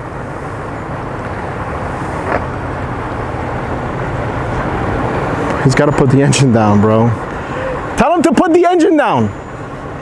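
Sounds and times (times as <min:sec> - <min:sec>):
boat engine running: 0:00.0 - 0:10.0
propeller churning spray: 0:00.0 - 0:10.0.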